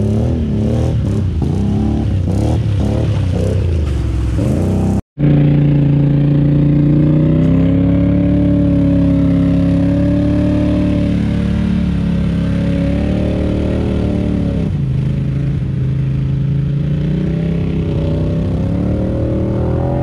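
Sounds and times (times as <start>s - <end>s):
atv engine revving: 0.0s - 20.0s
splashing through mud and water: 0.0s - 20.0s.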